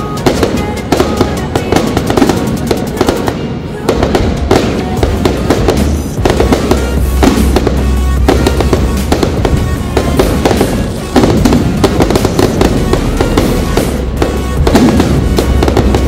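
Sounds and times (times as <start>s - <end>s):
fireworks bursting and crackling: 0.0s - 16.0s
music playing: 0.0s - 16.0s.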